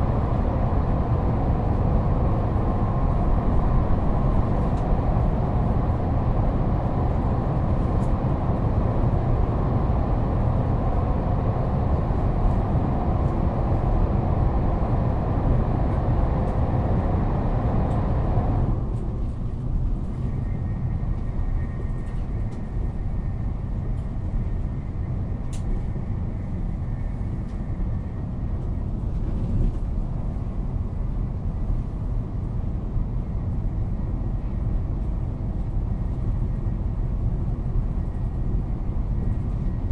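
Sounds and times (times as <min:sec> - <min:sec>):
train rumbling inside carriage: 0:00.0 - 0:39.9.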